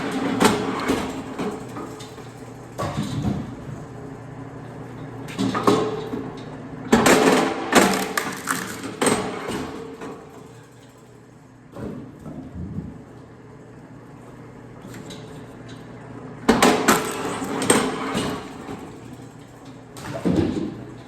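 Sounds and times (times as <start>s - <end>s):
log splitter motor hum: 0.0s - 21.0s.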